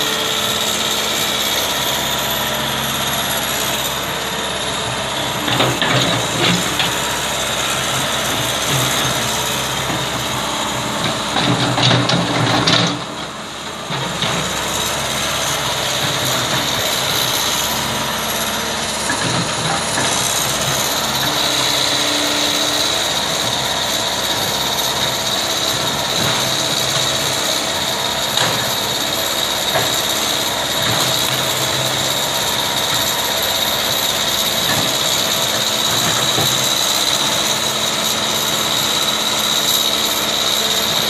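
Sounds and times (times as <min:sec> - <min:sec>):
backhoe diesel engine running: 0:00.0 - 0:41.0.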